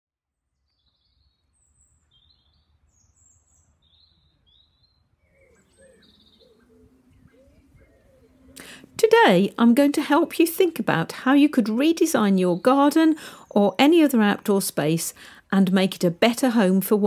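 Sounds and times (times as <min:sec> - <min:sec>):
faint birdsong: 0:00.2 - 0:17.0.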